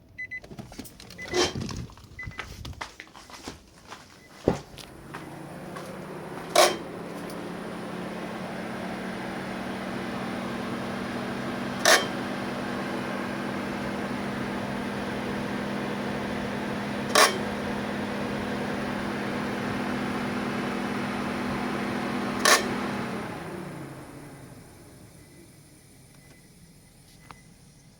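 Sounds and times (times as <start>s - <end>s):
heat pump droning hum: 3.7s - 27.9s.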